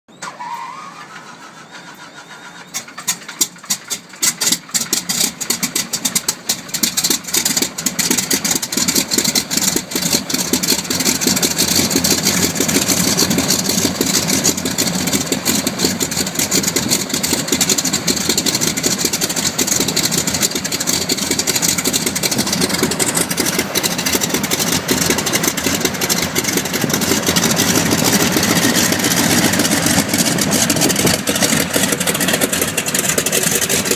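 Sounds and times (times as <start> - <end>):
radial aircraft engine running: 1.2 - 33.9.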